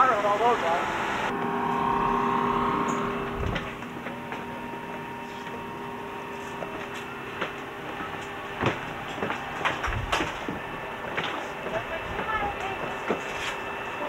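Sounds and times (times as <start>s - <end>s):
jet aircraft cabin drone: 0.0s - 14.0s
whining tones: 0.0s - 14.0s.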